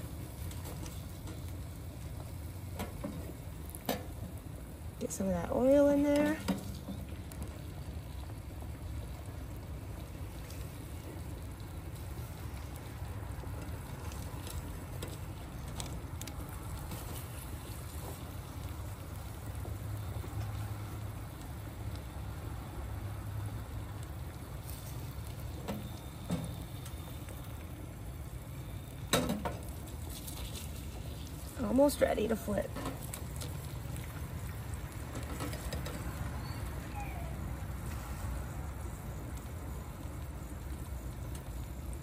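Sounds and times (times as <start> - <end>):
egg sizzling in oil: 0.0 - 42.0.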